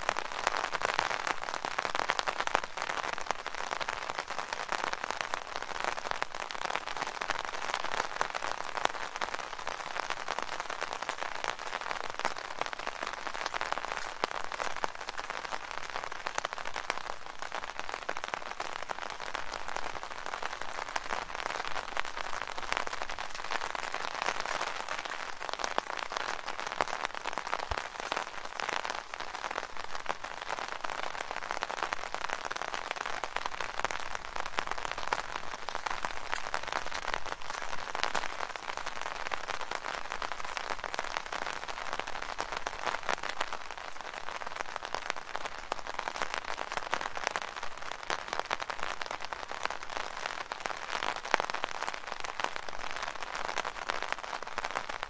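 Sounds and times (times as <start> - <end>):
light rain on an umbrella: 0.0 - 55.0.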